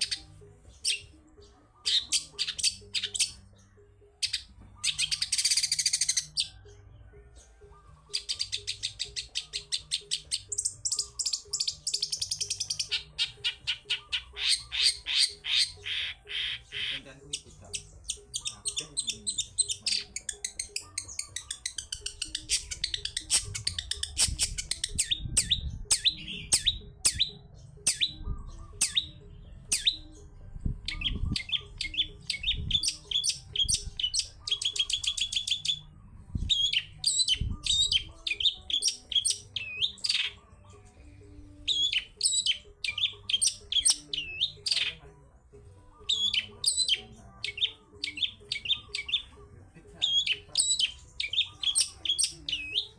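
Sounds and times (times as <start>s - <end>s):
bird singing chattering trills: 0.0s - 45.0s, 45.9s - 52.9s.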